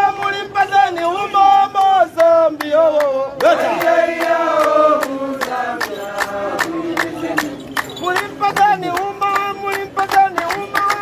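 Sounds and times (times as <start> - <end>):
men chanting: 0.0 - 11.0.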